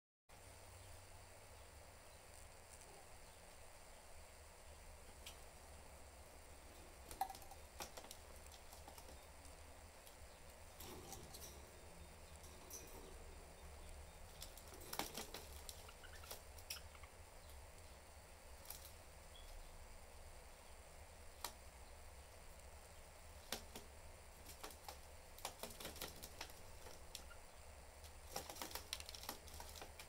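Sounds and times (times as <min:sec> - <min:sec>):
birds cracking seeds: 0:02.0 - 0:30.0.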